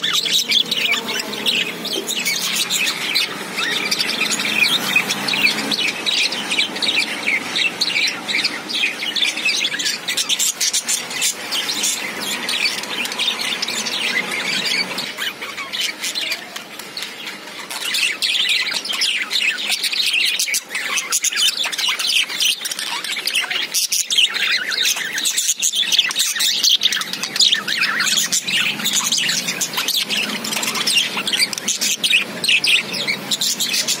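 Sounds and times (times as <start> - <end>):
budgerigars chirping: 0.0 - 34.0.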